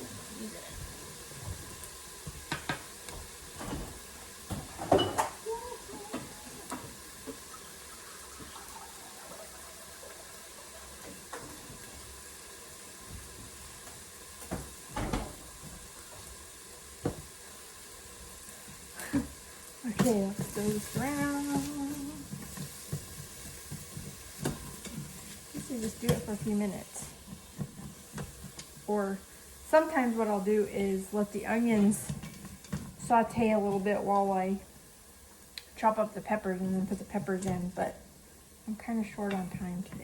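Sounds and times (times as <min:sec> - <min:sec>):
low steady background noise: 0:00.0 - 0:40.0.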